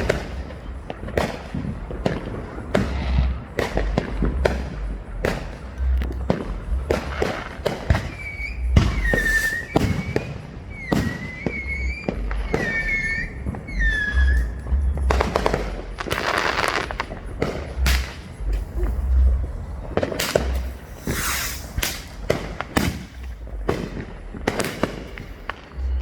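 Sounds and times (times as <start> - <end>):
fireworks bangs and pops: 0.0 - 26.0
whistling fireworks: 0.0 - 26.0.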